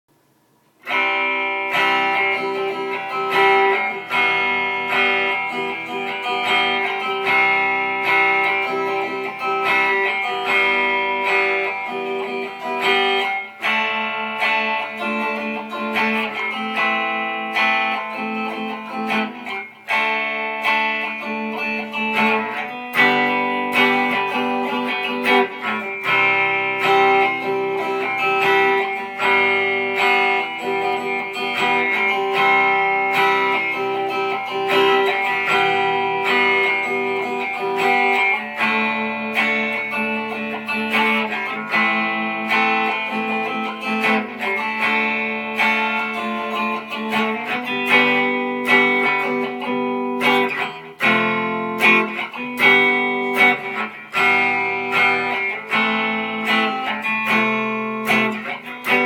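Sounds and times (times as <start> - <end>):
guitar plucked and strummed: 0.1 - 59.0.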